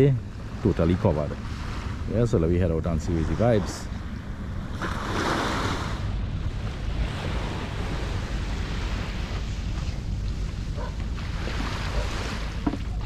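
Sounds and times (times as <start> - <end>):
sea water washing along shore: 0.0 - 13.0
wind buffeting microphone: 0.0 - 13.0.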